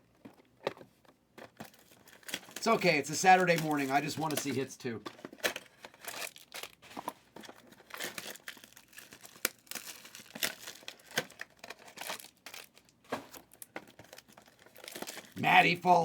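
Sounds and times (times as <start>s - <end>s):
plastic wrapping crinkling and tearing: 1.5s - 16.0s.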